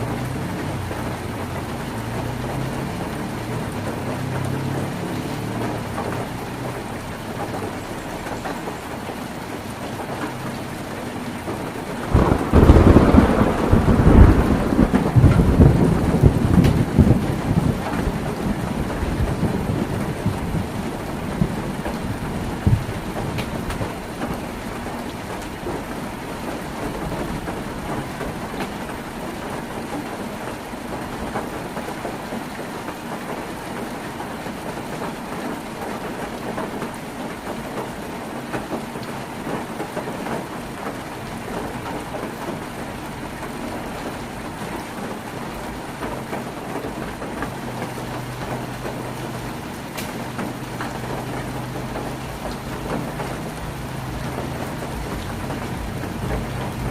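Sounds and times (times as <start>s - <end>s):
heavy rain on a tin roof: 0.0s - 56.9s.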